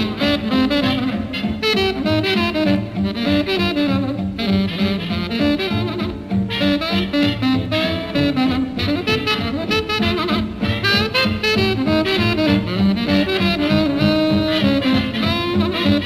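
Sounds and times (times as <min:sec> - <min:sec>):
jazz band playing swing: 0:00.0 - 0:16.0.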